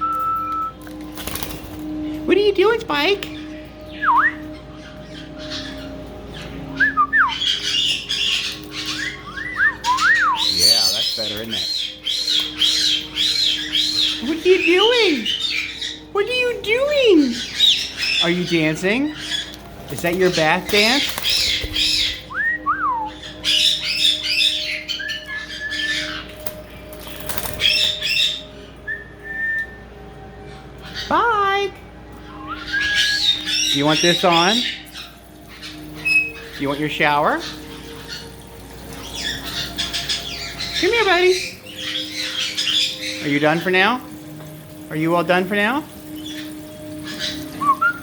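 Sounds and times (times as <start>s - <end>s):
parrot whistling: 0.0s - 0.8s, 2.8s - 16.2s, 16.9s - 31.2s, 32.2s - 44.2s, 44.9s - 48.0s.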